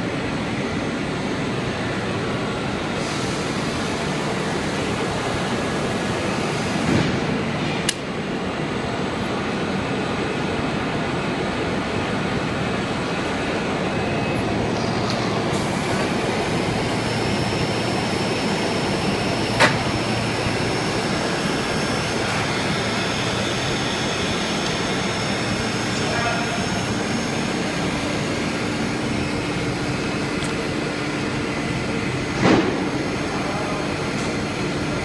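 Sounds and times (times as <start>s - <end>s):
conveyor machinery running: 0.0s - 35.0s.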